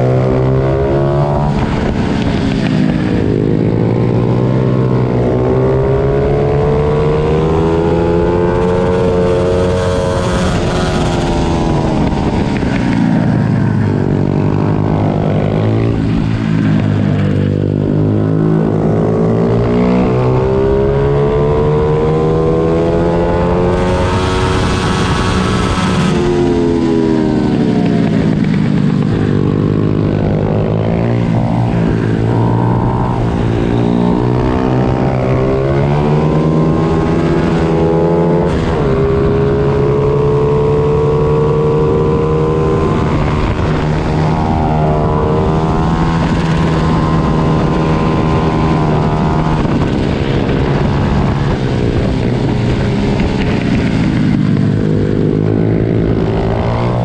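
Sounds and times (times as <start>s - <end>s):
low engine drone: 0.0s - 57.0s
pit bike engines revving: 0.0s - 57.0s.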